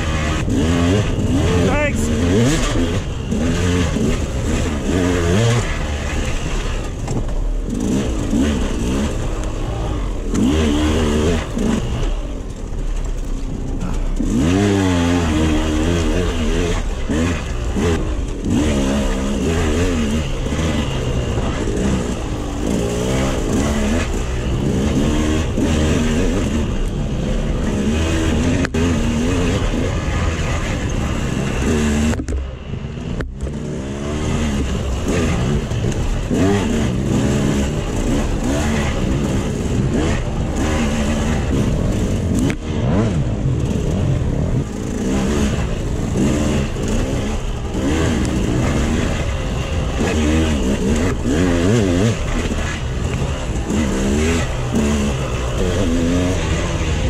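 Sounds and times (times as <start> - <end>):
two-stroke engine revving: 0.0 - 32.4, 33.0 - 57.0.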